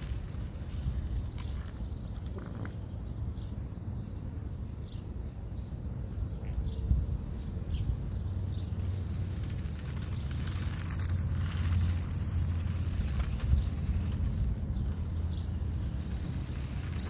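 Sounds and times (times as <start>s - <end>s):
birds chirping: 0.0s - 17.0s
low outdoor rumble: 0.0s - 17.0s.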